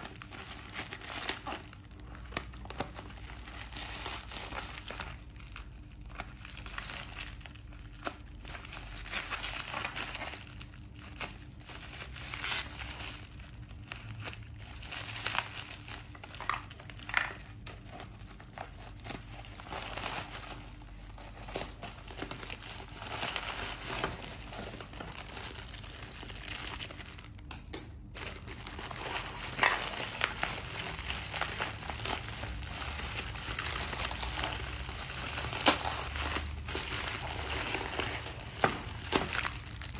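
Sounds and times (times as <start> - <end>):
plastic packaging crinkling: 0.0 - 39.9
plastic tearing: 0.0 - 39.9.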